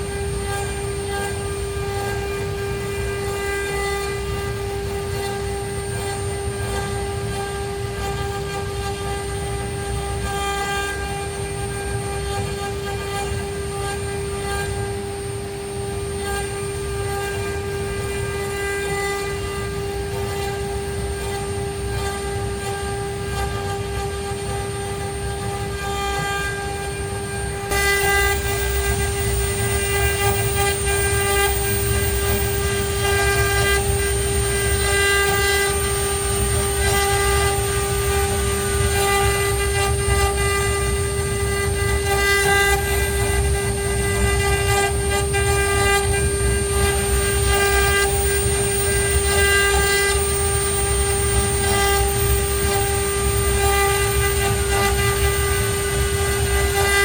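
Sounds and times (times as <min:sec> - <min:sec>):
cnc router whining: 0:00.0 - 0:57.0.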